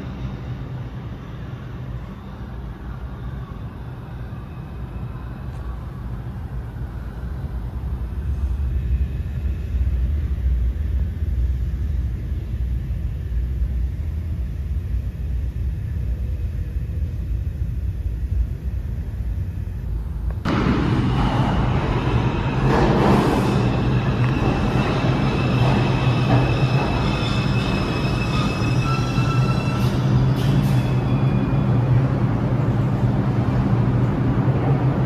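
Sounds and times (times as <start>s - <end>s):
subway train rumble: 0.0s - 35.0s.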